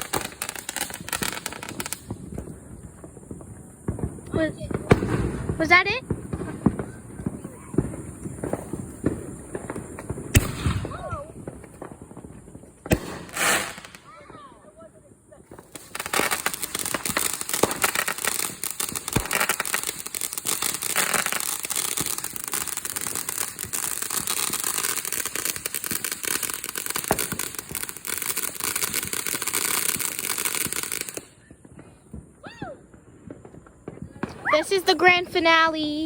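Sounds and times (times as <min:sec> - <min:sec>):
fireworks crackling pops: 0:00.0 - 0:36.0.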